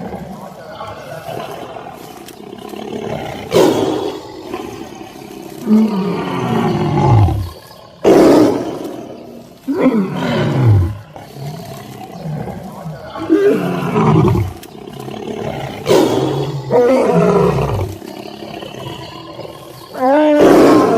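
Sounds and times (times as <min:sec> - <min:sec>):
tiger roaring: 0:00.0 - 0:20.9.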